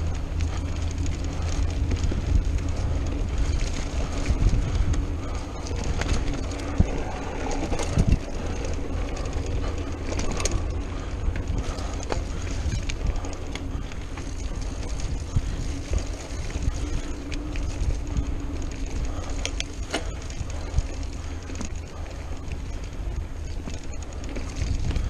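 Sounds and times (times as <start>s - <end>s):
bike clicks and rattles: 0.0s - 25.0s
wind buffeting microphone: 0.0s - 25.0s.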